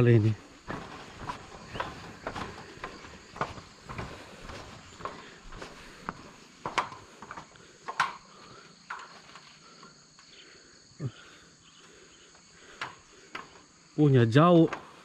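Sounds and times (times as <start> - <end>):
footsteps on wooden planks: 0.0 - 10.3, 11.2 - 15.0
insects buzzing: 0.0 - 15.0.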